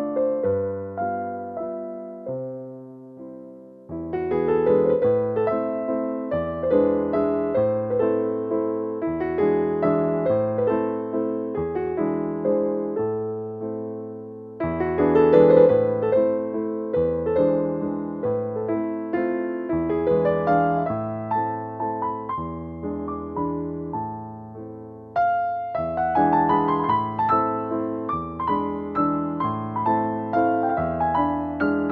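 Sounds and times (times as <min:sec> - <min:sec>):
gentle piano music: 0:00.0 - 0:31.9.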